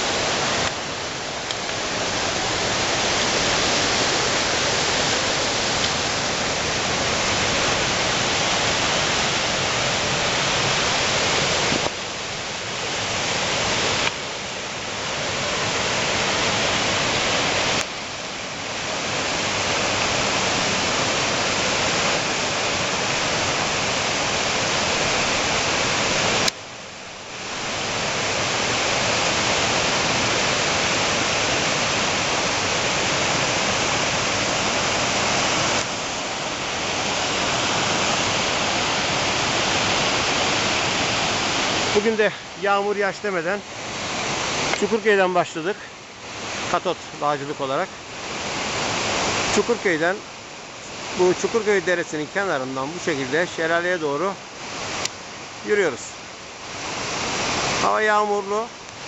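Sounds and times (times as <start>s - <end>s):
whitewater pouring over boulders: 0.0s - 59.0s.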